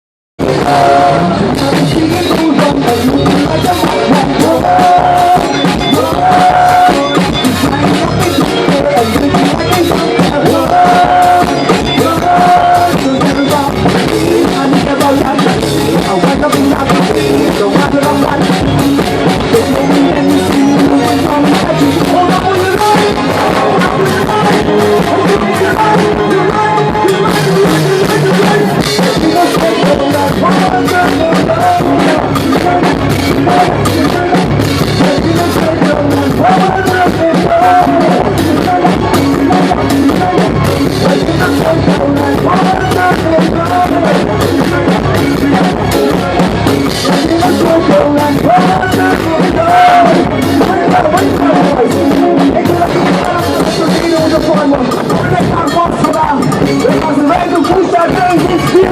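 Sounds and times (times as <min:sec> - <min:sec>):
loud soca music: 0:00.4 - 0:58.9
person singing: 0:00.4 - 0:58.9.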